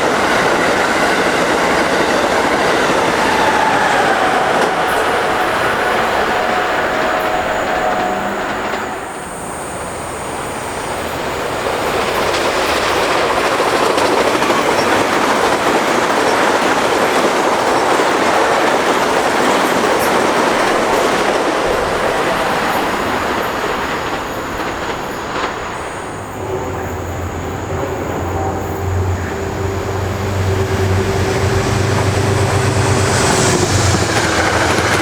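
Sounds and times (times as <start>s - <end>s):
clickety-clack over rail joints: 0.0s - 9.4s, 10.9s - 35.0s
train wheels rushing on rails: 0.0s - 35.0s.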